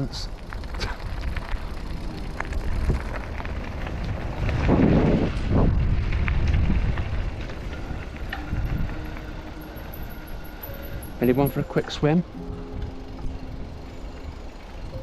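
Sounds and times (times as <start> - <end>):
low wind rumble: 0.0 - 15.0
rustling vegetation: 0.0 - 15.0.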